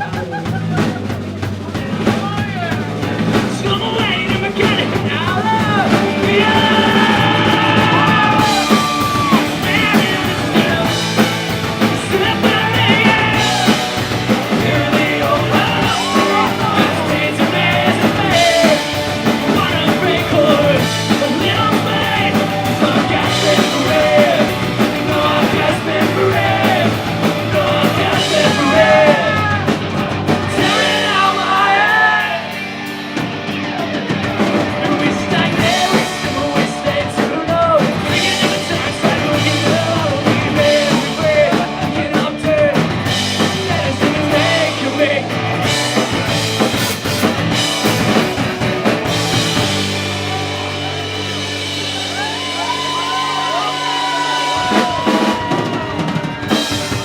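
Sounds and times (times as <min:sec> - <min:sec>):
lead singer: 0:00.0 - 0:57.0
rock band playing live: 0:00.0 - 0:57.0.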